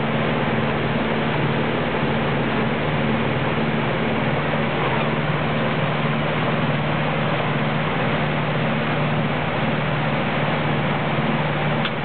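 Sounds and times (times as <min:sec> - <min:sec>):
boat engine humming: 0:00.0 - 0:12.0
water rushing: 0:00.0 - 0:12.0
wind: 0:00.0 - 0:12.0.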